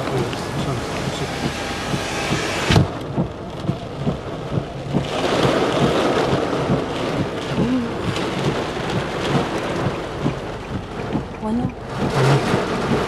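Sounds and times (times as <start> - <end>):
heavy rain and wind on car: 0.0 - 13.0
irregular thumps: 0.0 - 13.0.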